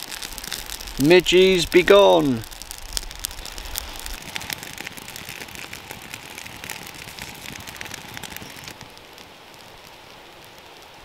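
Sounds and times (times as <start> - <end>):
campfire crackling and popping: 0.0 - 11.0
fire hissing: 0.0 - 11.0.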